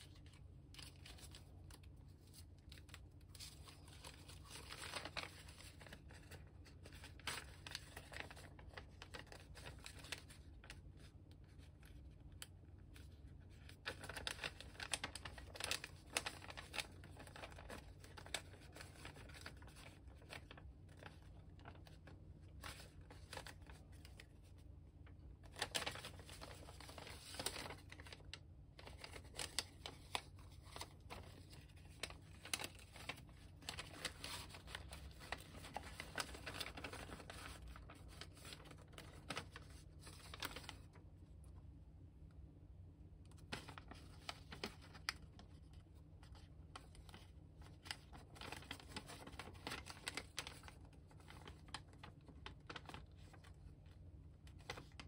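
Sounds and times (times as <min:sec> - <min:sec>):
paper rustling and crinkling: 0:00.0 - 0:41.1, 0:43.3 - 0:55.0
low steady hum: 0:00.0 - 0:55.0.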